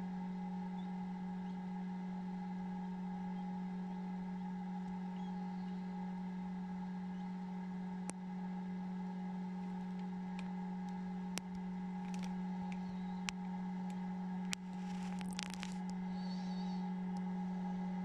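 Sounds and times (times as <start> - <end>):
incubator electrical hum: 0.0 - 18.0.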